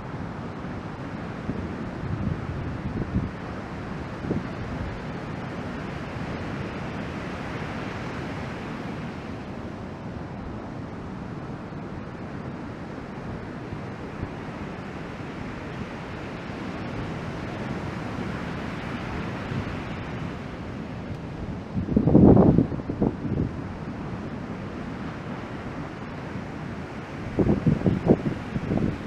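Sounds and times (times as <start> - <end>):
ocean surf washing: 0.0 - 29.0
wind rumbling on microphone: 0.0 - 29.0.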